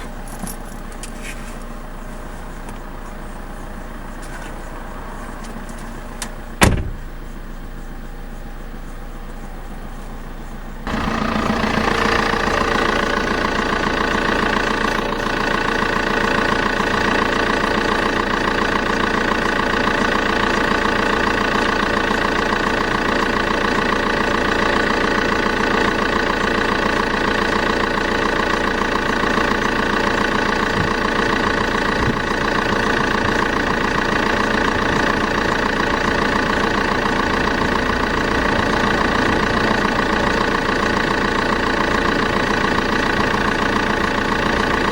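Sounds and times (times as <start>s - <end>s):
diesel engine starting and idling: 0.0s - 44.9s.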